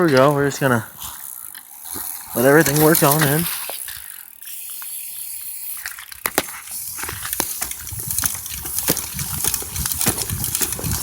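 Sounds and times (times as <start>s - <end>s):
bicycle chain clicking and rattling: 0.0s - 11.0s.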